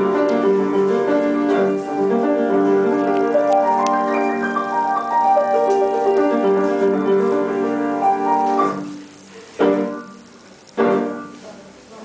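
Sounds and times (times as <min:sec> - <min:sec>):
piano playing slow melody: 0:00.0 - 0:11.6.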